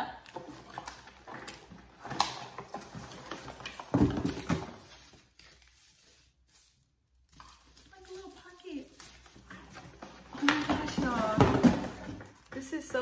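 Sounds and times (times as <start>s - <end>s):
packaging wrap crinkling: 0.4s - 11.4s.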